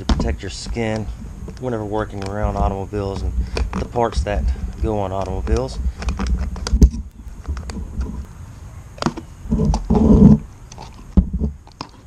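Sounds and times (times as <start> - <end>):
rubber boot squeaking and clicking: 0.0 - 8.3, 9.0 - 12.0
scraping rub: 0.2 - 8.3, 9.5 - 12.0.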